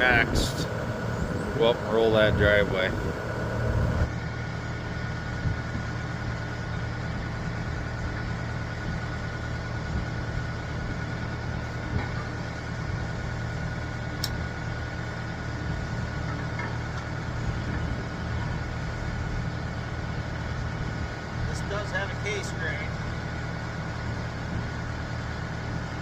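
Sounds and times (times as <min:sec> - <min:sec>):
diesel engine idling: 0:00.0 - 0:26.0
thin whine: 0:00.0 - 0:26.0.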